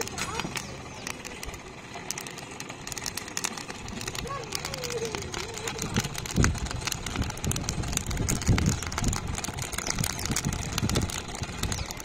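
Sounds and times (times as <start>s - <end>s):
charcoal crackling: 0.0s - 12.0s
low rumbling: 0.0s - 12.0s.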